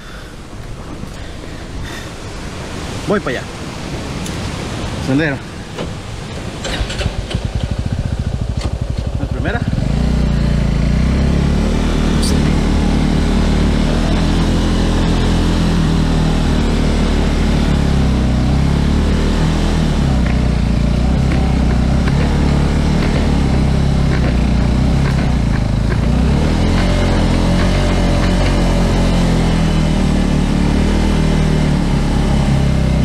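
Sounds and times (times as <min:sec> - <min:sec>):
motorcycle engine running: 0:06.6 - 0:33.0.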